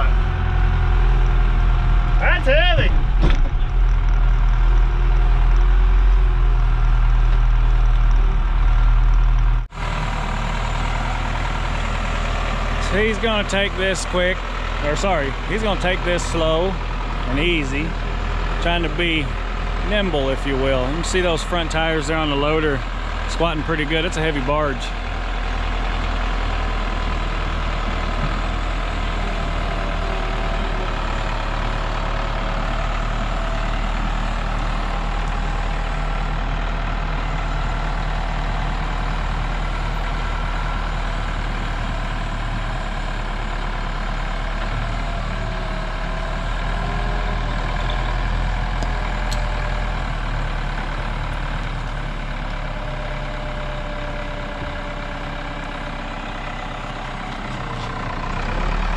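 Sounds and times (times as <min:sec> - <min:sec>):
diesel engine under heavy load: 0:00.0 - 0:58.9.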